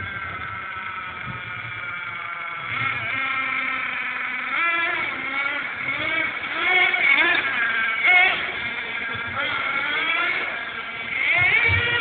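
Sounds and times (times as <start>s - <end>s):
small rc car engine revving: 0.0s - 12.0s.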